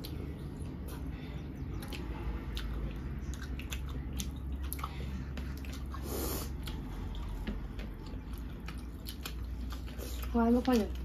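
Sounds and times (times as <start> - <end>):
steady low hum: 0.0 - 11.0
wet chewing and lip-smacking: 0.0 - 11.0.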